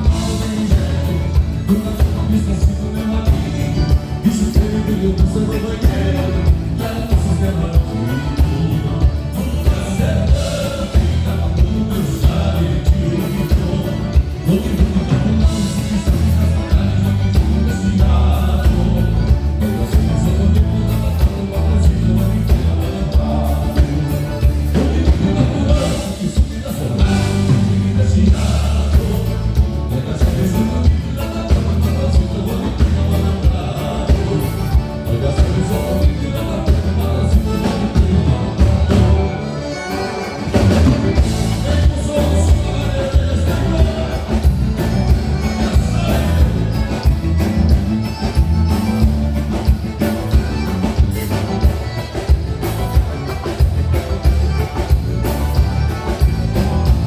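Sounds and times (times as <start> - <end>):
live band with heavy bass: 0.0 - 57.0
person singing: 0.0 - 57.0.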